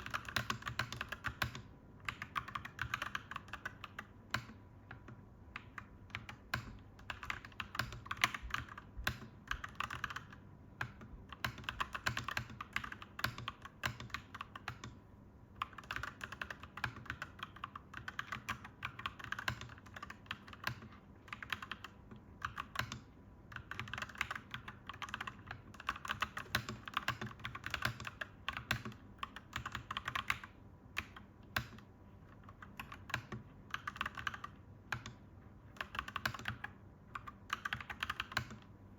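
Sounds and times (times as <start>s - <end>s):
mechanical keyboard typing: 0.0s - 38.8s.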